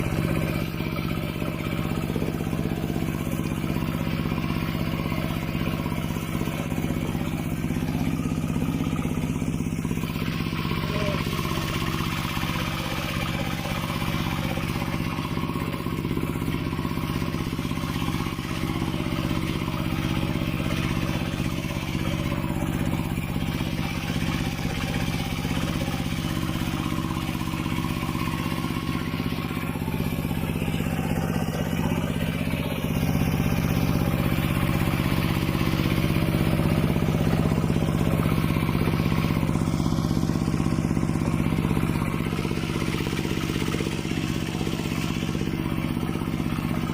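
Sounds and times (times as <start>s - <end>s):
tractor engine clattering: 0.0s - 46.9s.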